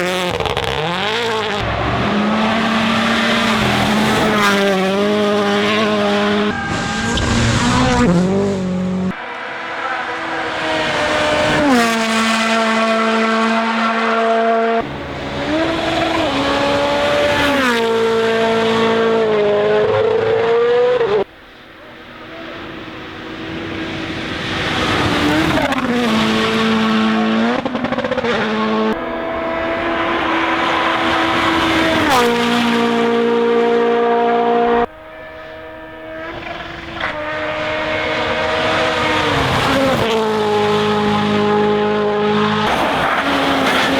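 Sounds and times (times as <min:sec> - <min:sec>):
rally car engines at full throttle: 0:00.0 - 0:43.9.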